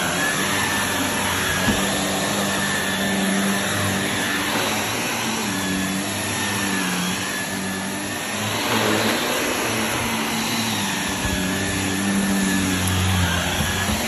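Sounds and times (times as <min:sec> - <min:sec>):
vacuum cleaner running on carpet: 0:00.0 - 0:14.0.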